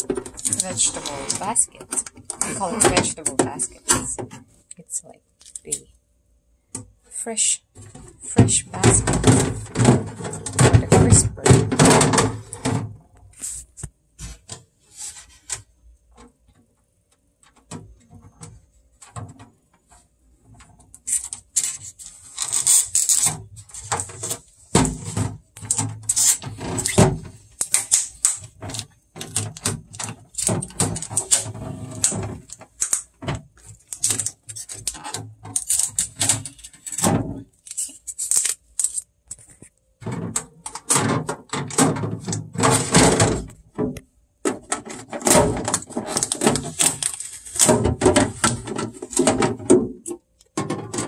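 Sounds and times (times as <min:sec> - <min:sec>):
plastic baskets clicking and clattering: 0:00.0 - 0:04.5, 0:07.7 - 0:13.4, 0:17.4 - 0:51.0.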